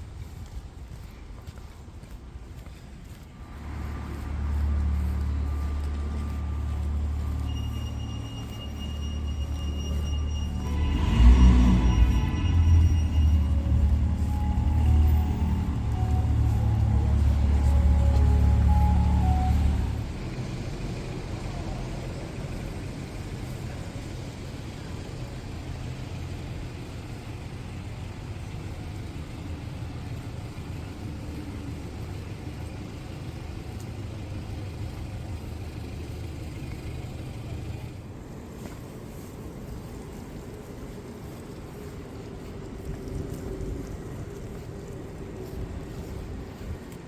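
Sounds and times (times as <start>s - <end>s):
traffic rumble: 0.0s - 47.0s.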